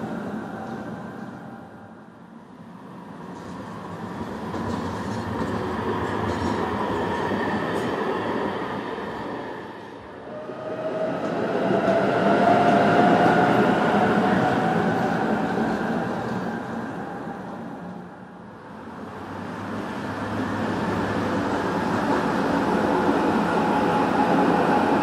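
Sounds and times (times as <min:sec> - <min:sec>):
tram whine: 0:00.0 - 0:25.0
trams rolling past: 0:00.0 - 0:25.0.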